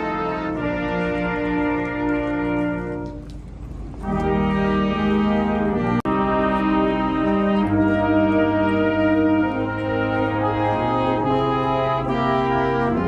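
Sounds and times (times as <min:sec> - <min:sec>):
brass ensemble playing sustained chords: 0:00.0 - 0:13.0.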